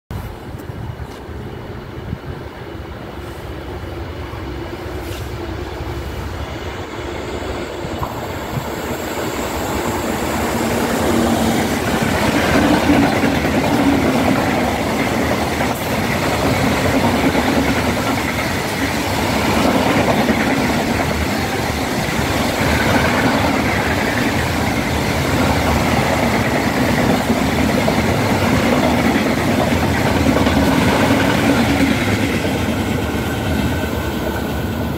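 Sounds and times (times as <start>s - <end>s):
freight train wheels rumbling: 0.1s - 34.9s.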